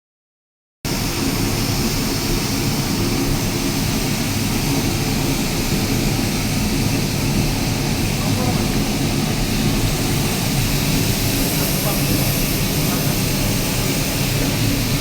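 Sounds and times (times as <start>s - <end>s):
fire burning with loud rush: 0.9s - 15.0s.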